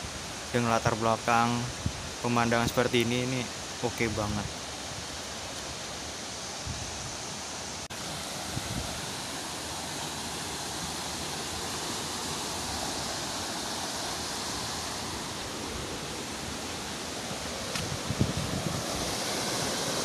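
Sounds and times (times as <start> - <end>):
stream rushing over boulders: 0.0 - 20.0.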